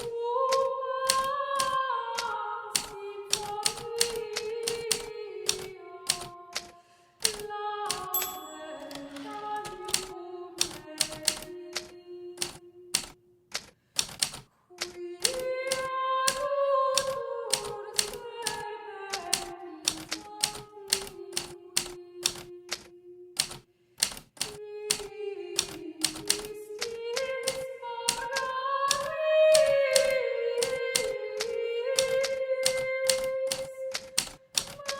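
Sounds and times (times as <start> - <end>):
typewriter keys clacking: 0.0 - 16.4, 17.0 - 34.9.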